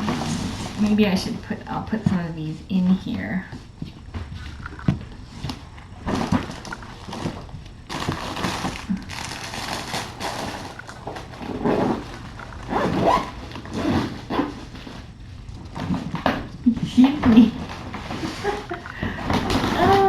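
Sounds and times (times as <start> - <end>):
rustling of items handled: 0.0 - 20.0.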